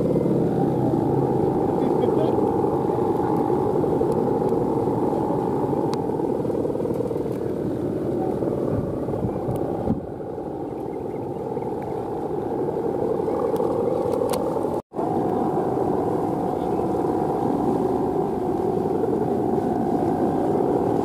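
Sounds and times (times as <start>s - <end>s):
kite hummers droning: 0.0s - 21.0s
wind noise: 0.0s - 21.0s.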